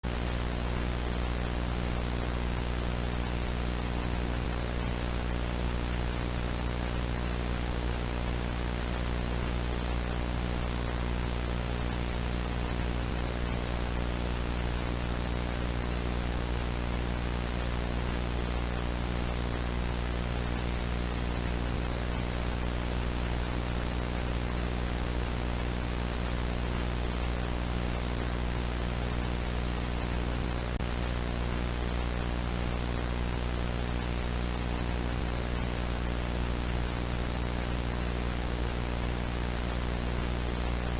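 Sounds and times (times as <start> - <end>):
low electrical hum: 0.1 - 40.9
static hiss: 0.1 - 40.9.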